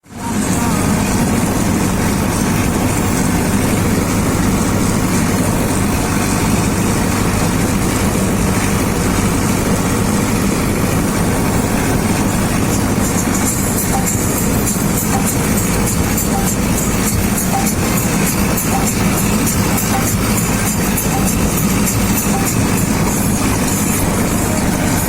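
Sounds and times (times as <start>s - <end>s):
engine humming steadily: 0.0s - 25.0s.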